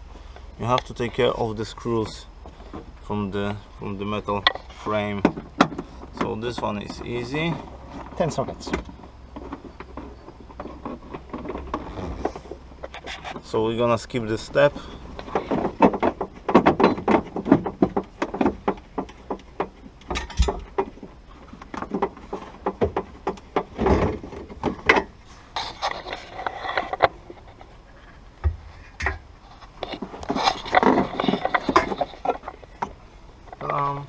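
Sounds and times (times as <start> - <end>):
clicks knocks and rubbing: 4.3 - 13.6, 14.6 - 34.0.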